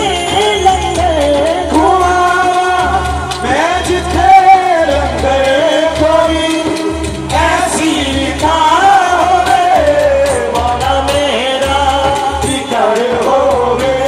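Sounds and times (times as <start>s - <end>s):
men singing: 0.0s - 14.0s.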